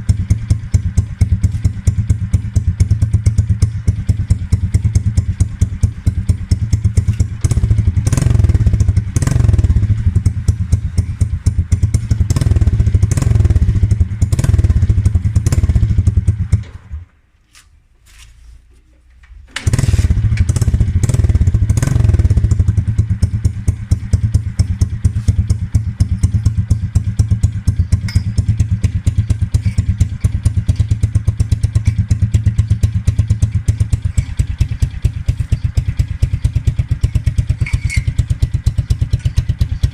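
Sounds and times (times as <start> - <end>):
motorcycle engine idling and revving: 0.0 - 17.2, 19.6 - 39.9.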